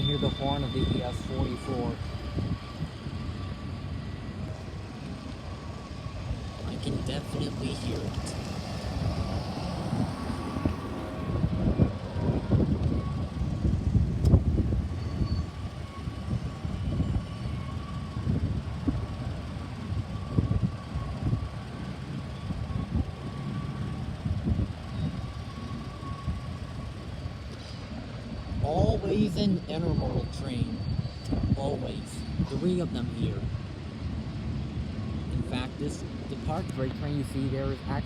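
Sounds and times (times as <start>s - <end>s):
high-pitched train squeal: 0.0s - 8.4s, 10.2s - 34.1s
freight train rumble: 0.0s - 38.0s.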